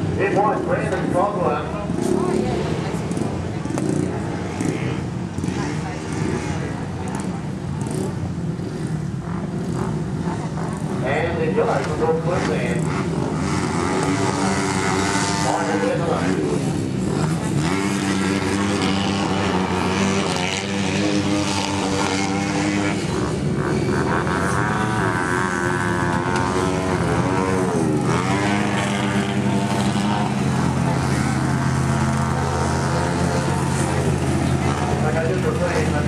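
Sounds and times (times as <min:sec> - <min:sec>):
motorcycle engines racing: 0:00.0 - 0:36.0.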